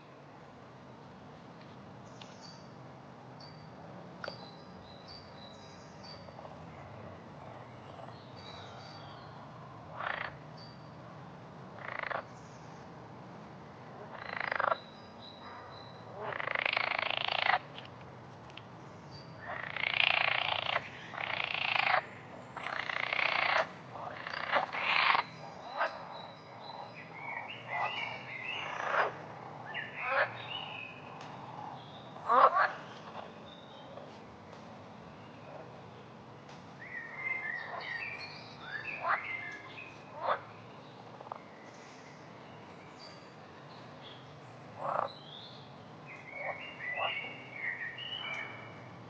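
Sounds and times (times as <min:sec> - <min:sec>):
faint low background noise: 0:00.0 - 0:49.0
frogs croaking: 0:03.4 - 0:13.0, 0:13.8 - 0:34.2, 0:35.2 - 0:35.8, 0:36.8 - 0:49.0.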